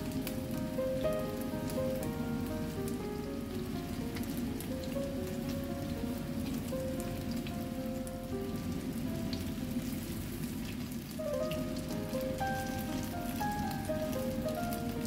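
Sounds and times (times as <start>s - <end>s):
fritters sizzling in oil: 0.0s - 15.0s
soft background music: 0.0s - 15.0s.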